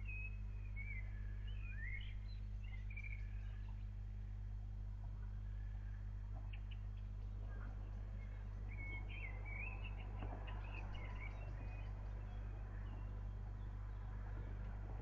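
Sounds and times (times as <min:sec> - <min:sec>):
bird chirping: 0:00.0 - 0:04.0, 0:06.4 - 0:15.0
steady low hum: 0:00.0 - 0:15.0.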